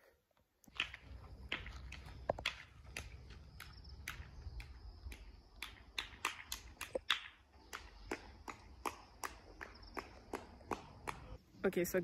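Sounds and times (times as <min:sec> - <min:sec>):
footsteps on dirt path: 0:00.6 - 0:11.4.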